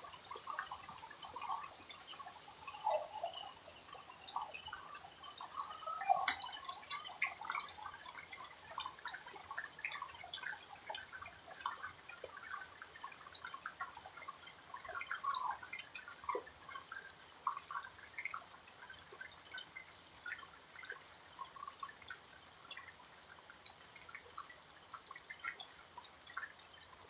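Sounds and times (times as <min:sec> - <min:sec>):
water dripping: 0:00.0 - 0:27.0.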